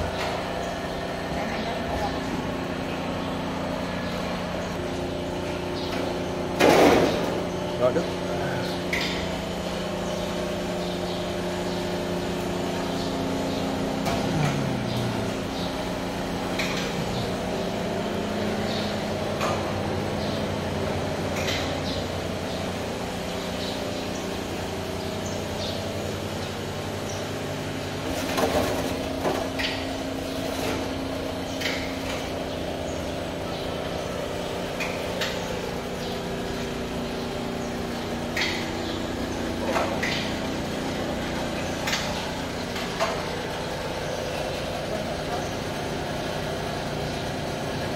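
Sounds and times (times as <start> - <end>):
fryer motor hum: 0.0 - 47.9.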